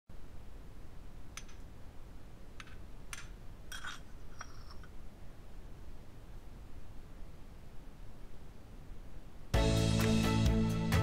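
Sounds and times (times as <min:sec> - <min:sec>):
low steady hum: 0:00.1 - 0:11.0.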